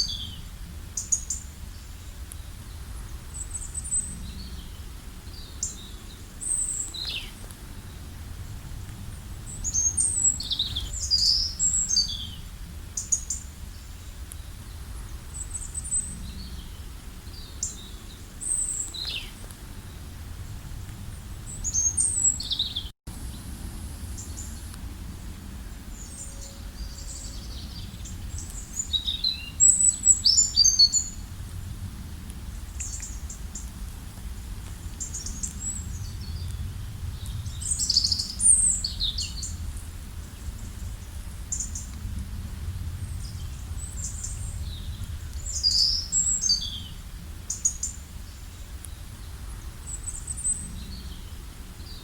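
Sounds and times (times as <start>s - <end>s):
wild birds chirping: 0.0s - 8.2s, 9.0s - 20.2s, 21.1s - 31.7s, 34.8s - 42.0s, 43.0s - 52.0s.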